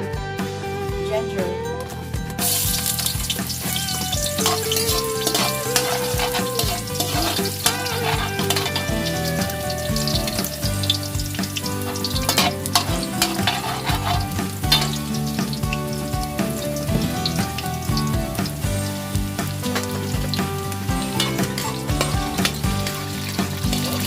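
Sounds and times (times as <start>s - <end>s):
ginger sizzling in oil: 2.4s - 24.0s
utensil scraping a wok: 2.4s - 24.0s.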